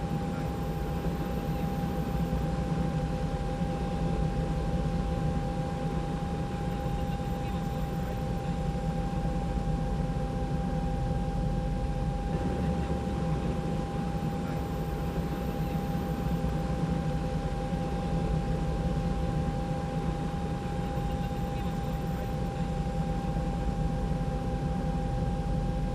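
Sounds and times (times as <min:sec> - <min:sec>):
high whine: 0:00.0 - 0:25.1
helicopter drone: 0:00.0 - 0:25.9.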